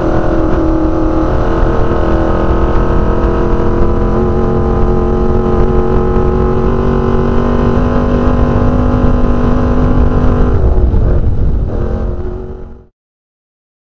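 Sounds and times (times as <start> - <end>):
race car engine at high revs: 0.0 - 12.9
rumble from rough track: 0.0 - 12.9.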